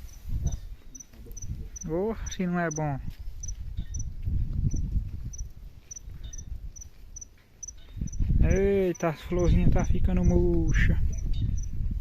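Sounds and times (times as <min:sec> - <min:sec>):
cricket chirping: 0:00.0 - 0:04.1, 0:04.7 - 0:11.7.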